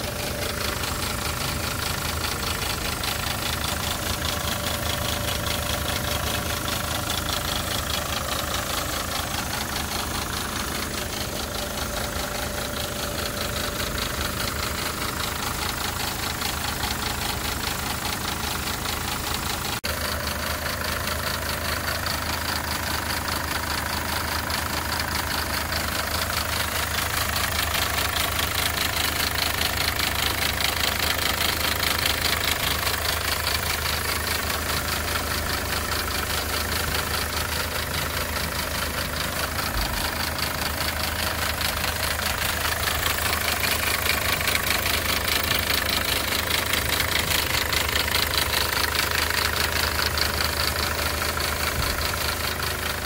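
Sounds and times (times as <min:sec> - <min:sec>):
diesel engine idling with knocking: 0:00.0 - 0:53.0.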